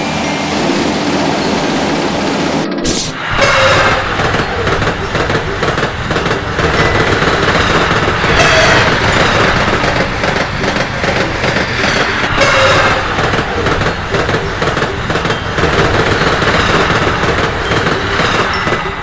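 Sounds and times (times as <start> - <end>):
train rumble: 0.0 - 19.0
train wheels rattling over rail joints: 0.0 - 19.0.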